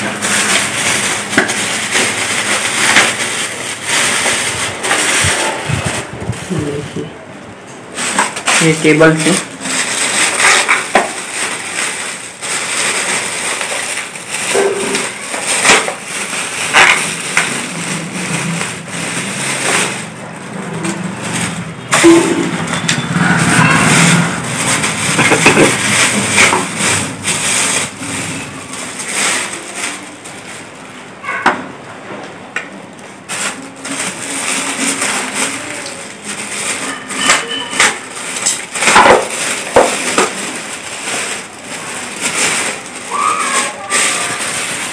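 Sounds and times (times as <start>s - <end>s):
plastic wrapping crinkling: 0.0s - 7.1s, 7.8s - 31.4s, 32.8s - 44.9s.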